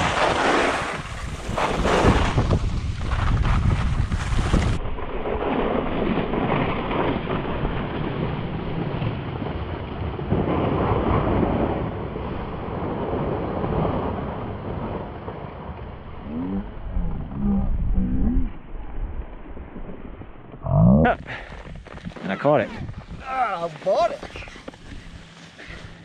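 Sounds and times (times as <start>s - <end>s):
wind buffeting microphone: 0.0s - 9.4s, 10.7s - 26.0s.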